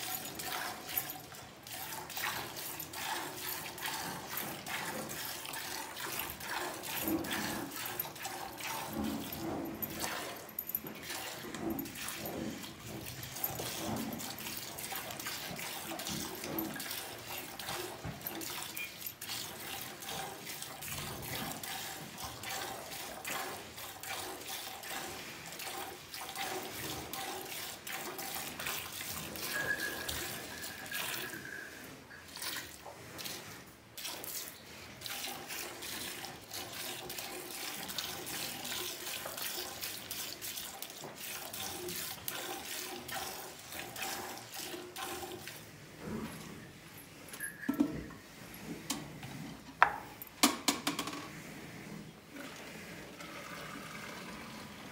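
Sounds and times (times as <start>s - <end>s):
milk squirting into steel pail: 0.0s - 45.7s, 52.3s - 54.9s.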